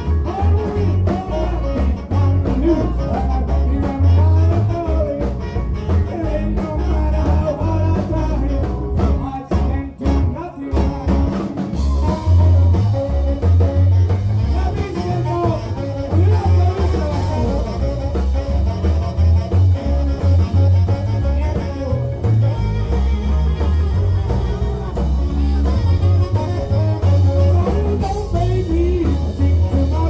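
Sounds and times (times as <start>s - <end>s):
live band playing: 0.0s - 30.0s
person singing: 0.0s - 30.0s.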